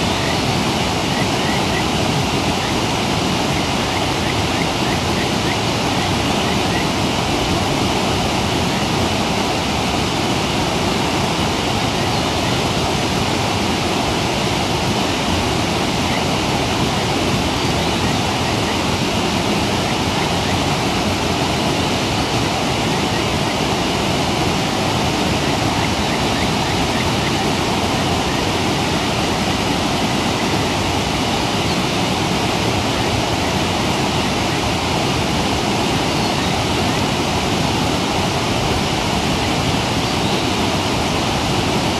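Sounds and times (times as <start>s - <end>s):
stream water rushing over rocks: 0.0s - 41.9s.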